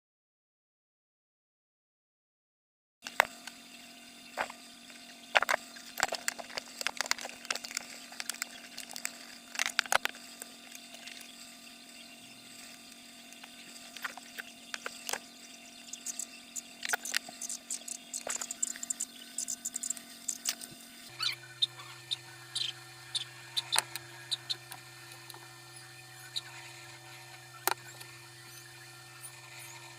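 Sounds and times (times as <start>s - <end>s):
steady low hum: 3.0s - 29.9s.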